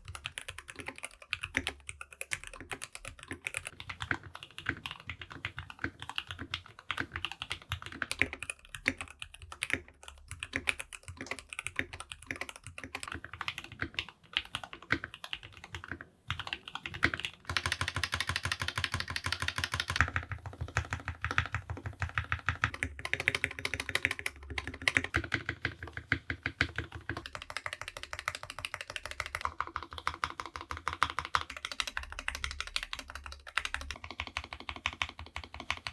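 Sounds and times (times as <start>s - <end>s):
mechanical keyboard keystroke clacks: 0.0s - 35.9s.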